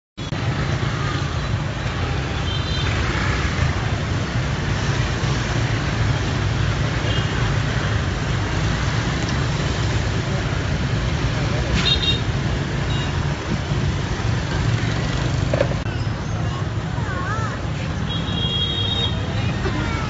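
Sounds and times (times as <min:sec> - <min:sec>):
motorbike and scooter traffic: 0:00.2 - 0:20.0.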